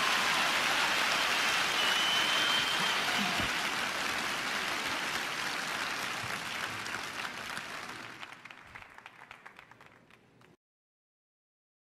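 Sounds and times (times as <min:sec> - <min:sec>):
crowd applauding and cheering: 0:00.0 - 0:10.5.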